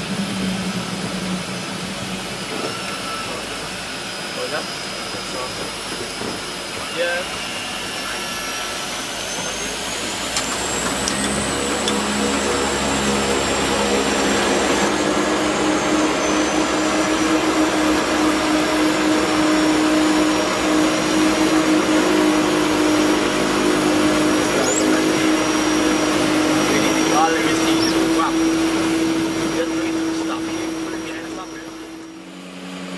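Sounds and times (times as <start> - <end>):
jet engines roaring in cabin: 0.0 - 32.9.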